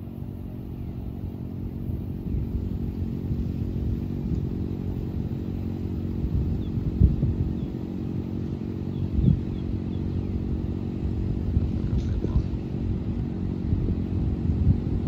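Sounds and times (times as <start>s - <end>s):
birds chirping: 0.0s - 14.0s
low engine rumble: 0.0s - 15.0s.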